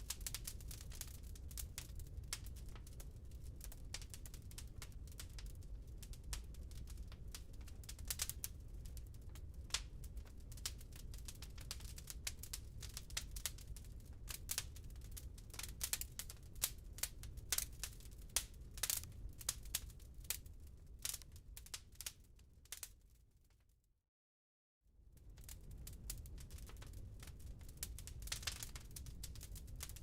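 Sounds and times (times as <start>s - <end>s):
wood fire crackling and popping: 0.0s - 23.0s, 25.1s - 30.0s
low rumble of flames: 0.0s - 23.5s, 24.9s - 30.0s.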